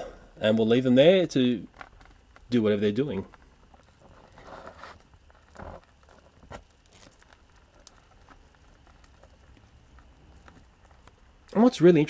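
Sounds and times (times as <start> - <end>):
beetle legs scratching on plastic: 0.6 - 11.7
soft rustles: 1.7 - 11.7.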